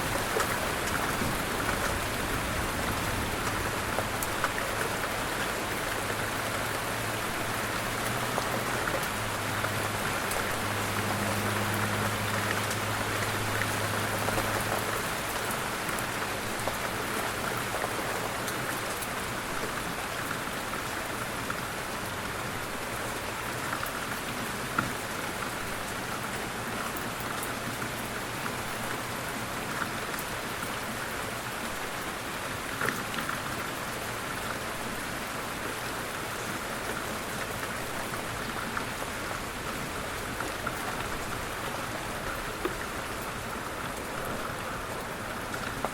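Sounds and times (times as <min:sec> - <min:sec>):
light rain pattering: 0:00.0 - 0:45.9.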